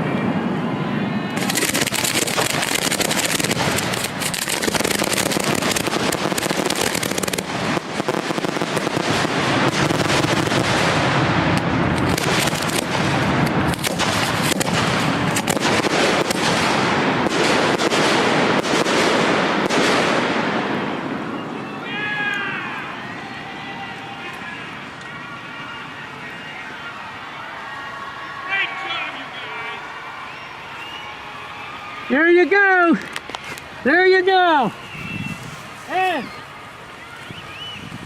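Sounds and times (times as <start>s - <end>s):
fireworks bangs and crackle: 0.0s - 26.5s, 32.9s - 38.0s.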